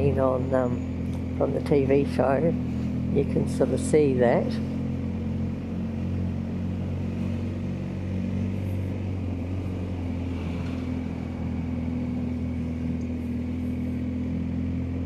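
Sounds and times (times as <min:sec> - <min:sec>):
motorcycle engine humming: 0:00.0 - 0:15.0
road noise: 0:00.0 - 0:15.0.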